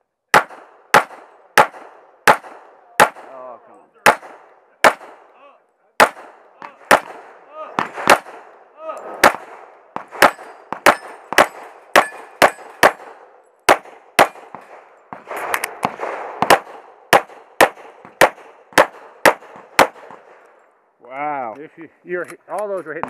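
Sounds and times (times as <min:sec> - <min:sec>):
pistol shots: 0:00.3 - 0:05.4, 0:06.0 - 0:20.5.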